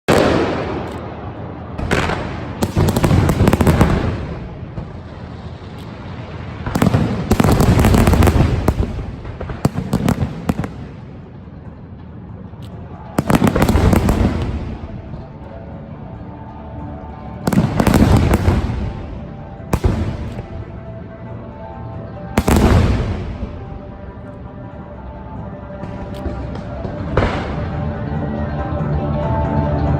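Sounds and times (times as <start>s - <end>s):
music: 0.1s - 29.9s.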